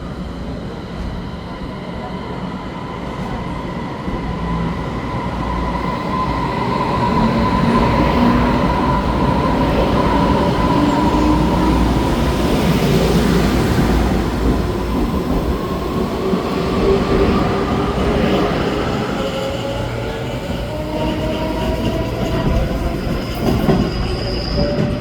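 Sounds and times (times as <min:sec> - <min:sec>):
electric train running on track: 0:00.0 - 0:25.0
steady train whine: 0:00.0 - 0:25.0.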